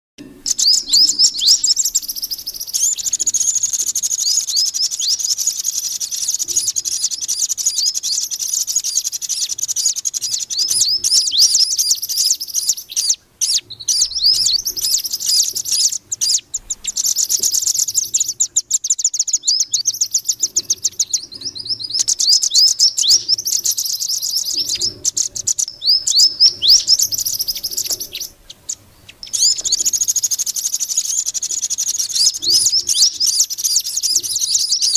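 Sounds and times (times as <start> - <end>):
fast high-pitched bird chirps: 0.4 - 34.9.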